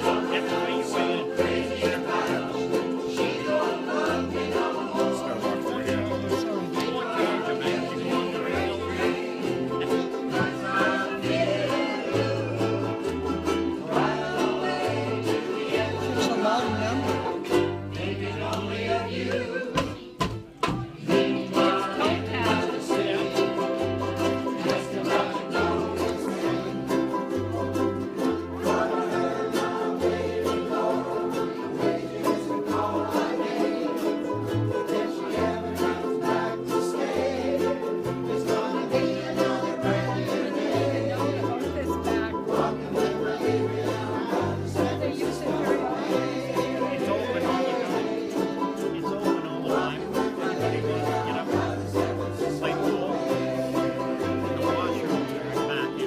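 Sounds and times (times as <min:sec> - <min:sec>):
strummed ukuleles: 0:00.0 - 0:56.0
voices singing: 0:00.0 - 0:56.0.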